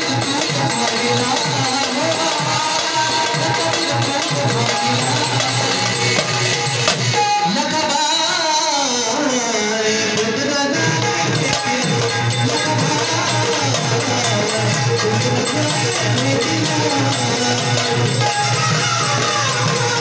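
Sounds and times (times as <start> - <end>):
drum playing quick rhythm: 0.0 - 7.5, 10.2 - 20.0
jingling percussion: 0.0 - 7.5, 11.0 - 20.0
person singing melodic line: 0.0 - 20.0.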